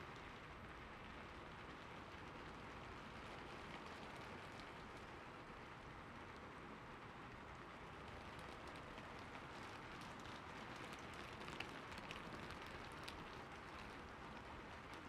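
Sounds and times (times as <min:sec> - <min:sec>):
soft steady rain: 0:00.0 - 0:15.0.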